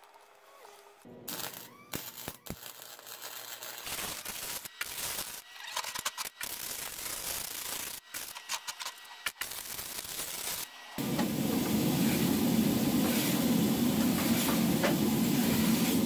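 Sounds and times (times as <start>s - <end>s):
electric arc welding crackle: 0.0s - 16.0s.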